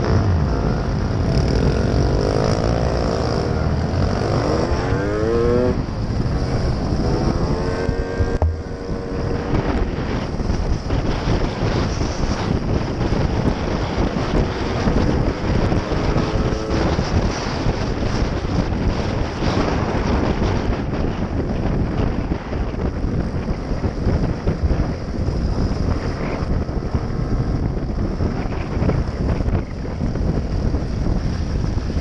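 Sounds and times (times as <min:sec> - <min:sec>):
motorcycle engine accelerating: 0:00.0 - 0:32.0
wind noise on microphone: 0:00.0 - 0:32.0.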